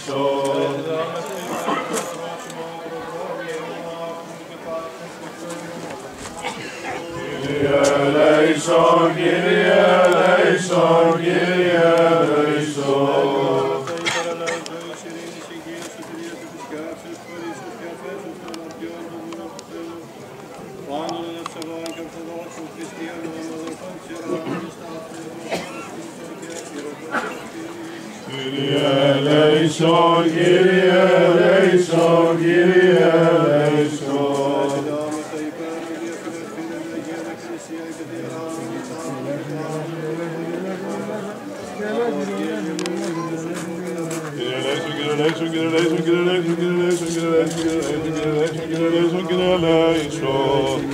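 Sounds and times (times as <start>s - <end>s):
voices chanting: 0.0s - 20.0s, 26.8s - 50.9s.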